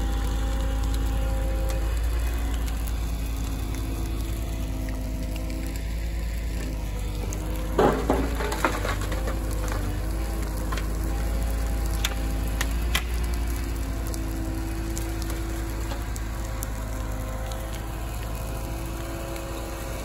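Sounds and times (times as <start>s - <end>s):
burning branches crackling: 0.0s - 20.0s
excavator diesel engine running: 0.0s - 20.0s.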